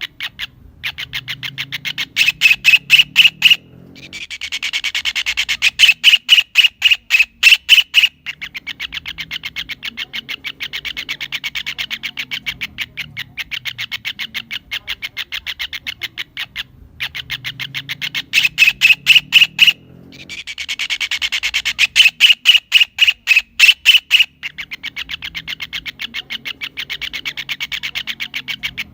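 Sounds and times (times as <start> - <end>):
kingfisher chattering call: 0.0 - 28.9.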